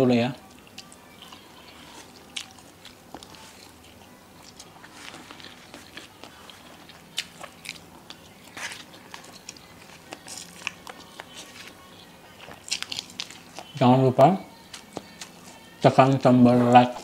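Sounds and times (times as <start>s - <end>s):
person chewing crunchy chips: 0.4s - 17.0s.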